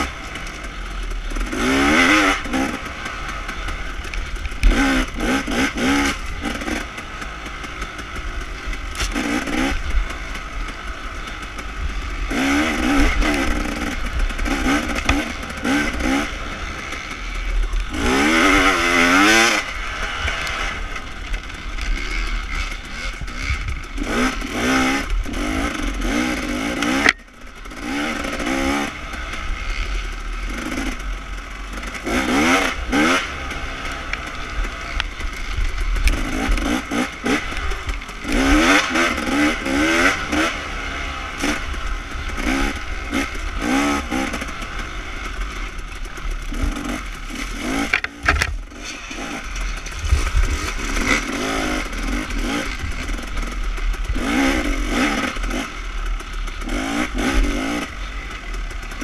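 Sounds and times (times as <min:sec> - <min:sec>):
bike rattles and scrapes: 0:00.0 - 0:59.0
dirt bike engine revving: 0:00.0 - 0:59.0.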